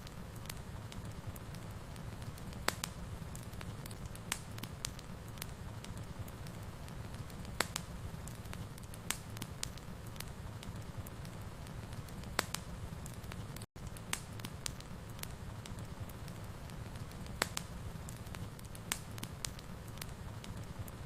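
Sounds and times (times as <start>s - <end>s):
fire crackles and pops: 0.0s - 21.0s
wood fire burning: 0.0s - 21.0s.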